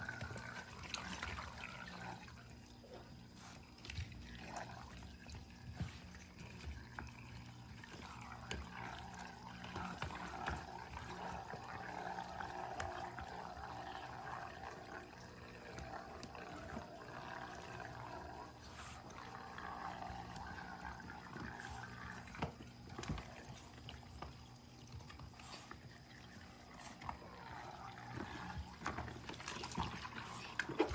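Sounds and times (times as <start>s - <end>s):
water trickling: 0.0s - 30.9s.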